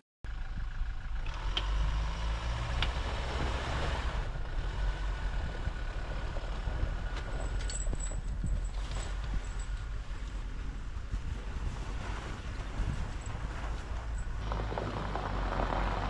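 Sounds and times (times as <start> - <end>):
engine rumble: 0.3 - 16.0.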